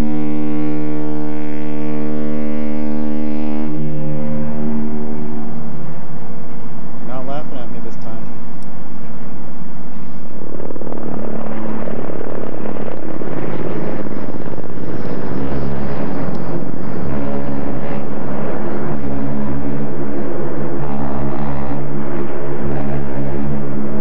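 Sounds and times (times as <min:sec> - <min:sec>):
ship's horn long deep blast: 0:00.0 - 0:06.8, 0:10.8 - 0:24.0
loud steady noise: 0:00.0 - 0:24.0.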